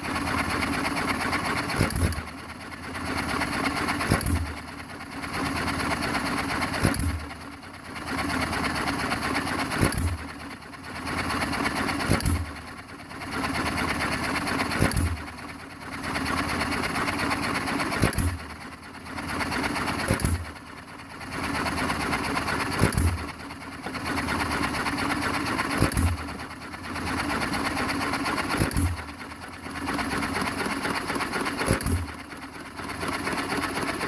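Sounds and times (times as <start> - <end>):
engine firing stroke: 0.0 - 34.0
engine mechanical clatter: 0.0 - 34.0.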